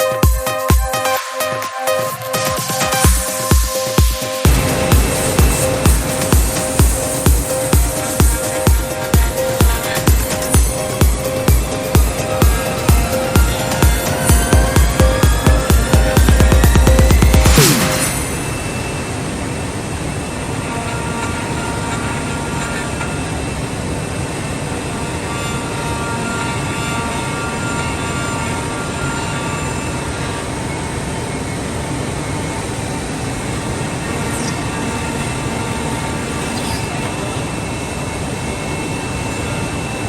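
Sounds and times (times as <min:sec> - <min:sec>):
faint high tones: 0:01.9 - 0:40.0
machine steady mechanical noise: 0:02.4 - 0:40.0.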